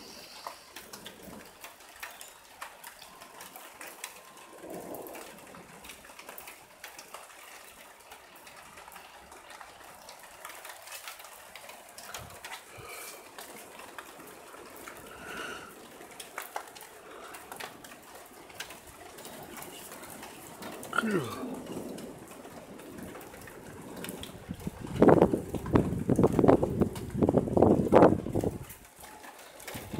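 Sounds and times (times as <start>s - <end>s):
rain hissing: 0.0s - 29.9s.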